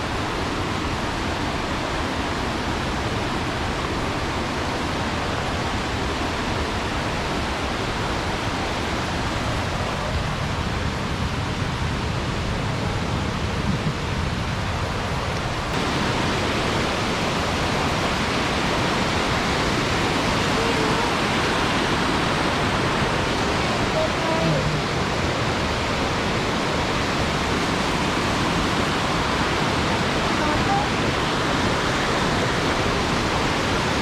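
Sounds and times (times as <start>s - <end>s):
waterfall rushing: 0.0s - 12.0s, 14.8s - 34.0s.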